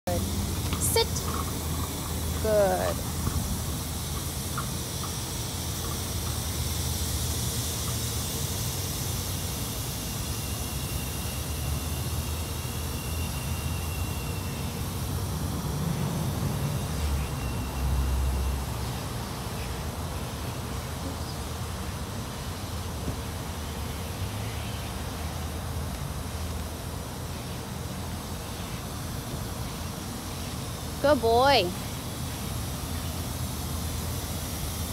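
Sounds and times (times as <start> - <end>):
high hiss: 0.1 - 34.9.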